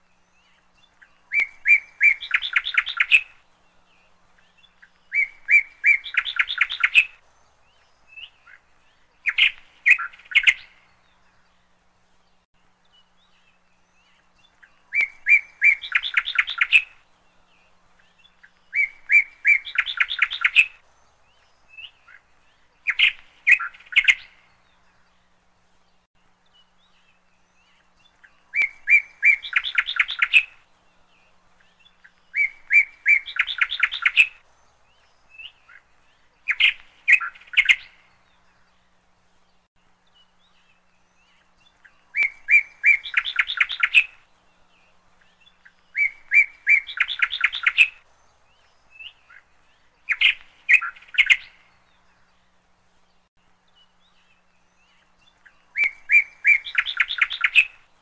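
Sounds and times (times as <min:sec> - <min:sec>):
songbird chirping and trilling: 0:00.0 - 0:58.0.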